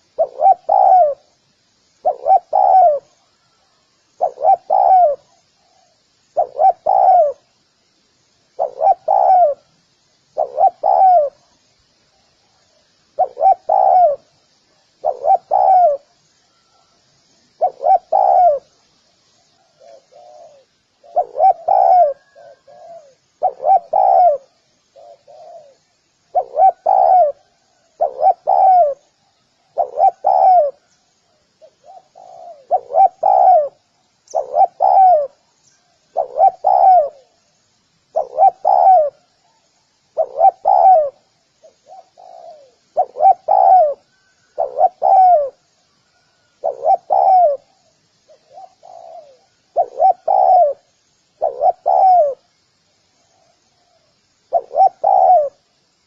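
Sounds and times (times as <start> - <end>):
dove cooing: 0.0 - 1.4, 2.0 - 7.5, 8.6 - 9.7, 10.4 - 11.6, 13.1 - 14.3, 15.0 - 16.9, 17.6 - 18.7, 19.6 - 31.0, 31.6 - 37.4, 38.1 - 52.5, 53.3 - 55.6
faint high chirping: 0.0 - 56.0.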